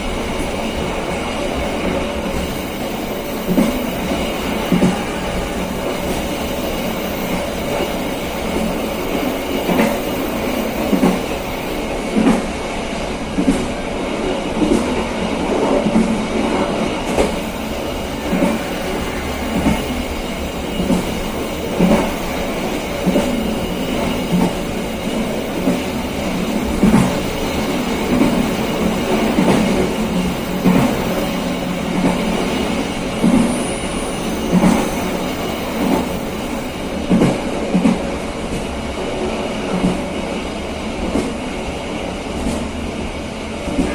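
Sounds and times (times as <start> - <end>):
train rumbling along rails: 0.0 - 43.9.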